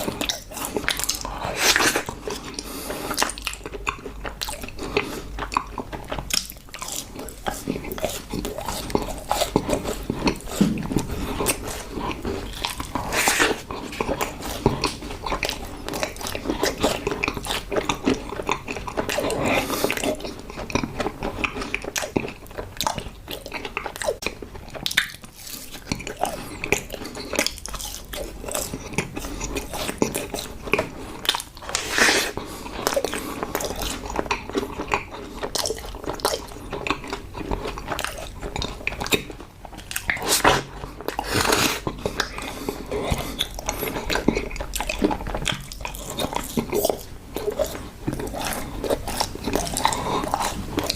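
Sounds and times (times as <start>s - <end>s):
chewing and crunching cookies: 0.0s - 50.9s.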